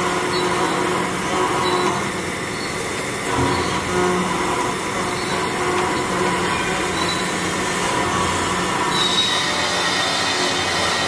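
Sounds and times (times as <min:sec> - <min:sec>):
high machine whine: 0:00.0 - 0:11.0
milling machine cutting noise: 0:00.0 - 0:11.0.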